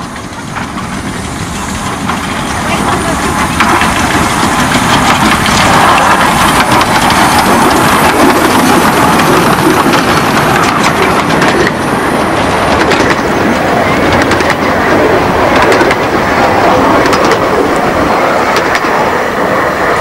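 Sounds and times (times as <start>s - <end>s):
miniature train running past: 0.0s - 20.0s
wheels clicking over rail joints: 0.0s - 20.0s.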